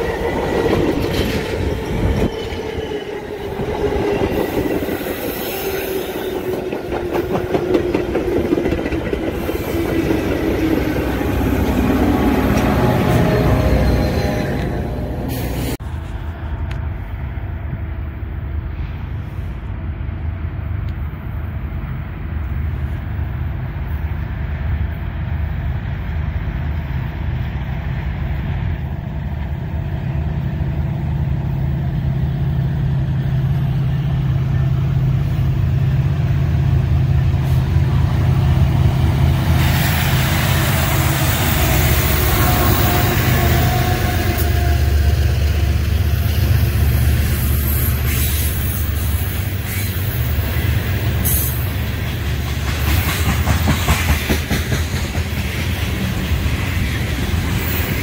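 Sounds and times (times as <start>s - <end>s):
diesel locomotive engine rumble: 0.0s - 58.0s
wheel on rail rush: 0.0s - 58.0s.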